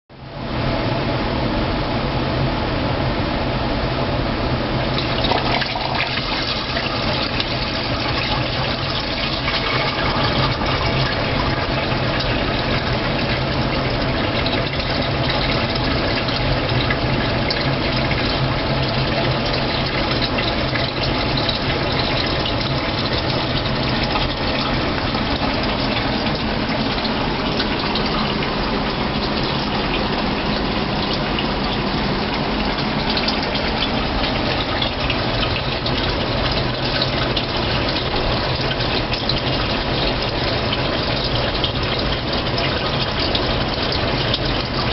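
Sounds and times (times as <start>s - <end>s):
water jet rushing: 4.5s - 44.9s.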